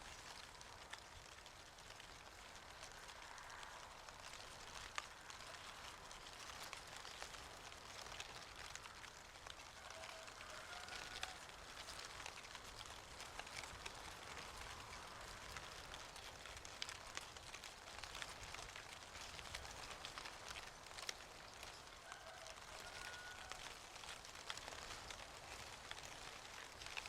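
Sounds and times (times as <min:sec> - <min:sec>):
falling leaves rustling: 0:00.0 - 0:27.0.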